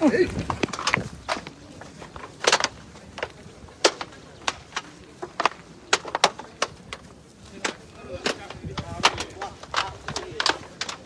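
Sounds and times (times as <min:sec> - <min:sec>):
fire popping and crackling: 0:00.0 - 0:11.0.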